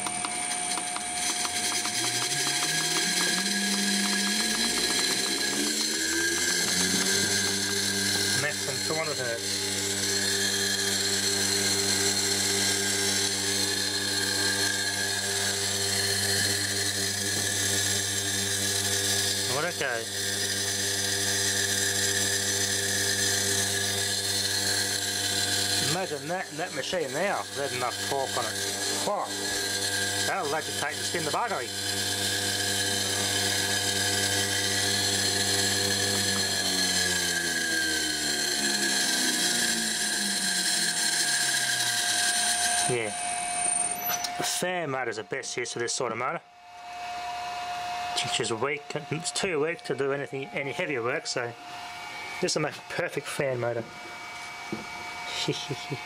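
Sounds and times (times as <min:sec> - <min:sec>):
washing machine motor spinning: 0:00.0 - 0:45.0, 0:46.0 - 0:52.5, 0:53.9 - 0:56.0.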